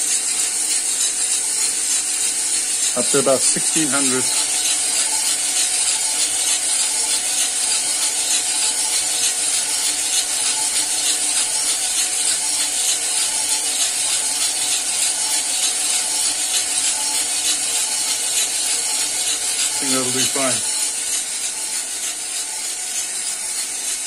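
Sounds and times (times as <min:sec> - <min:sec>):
coffee roaster beans tumbling: 0:00.0 - 0:24.0
faint motor hum: 0:00.0 - 0:24.0.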